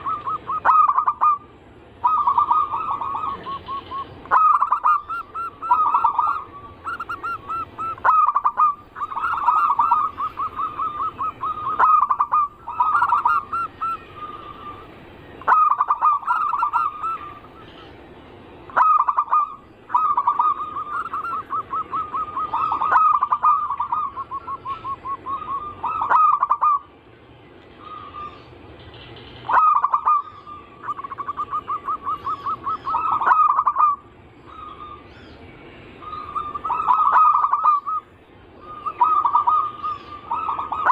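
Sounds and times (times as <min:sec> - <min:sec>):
doves cooing: 0:00.0 - 0:26.9, 0:27.7 - 0:40.9.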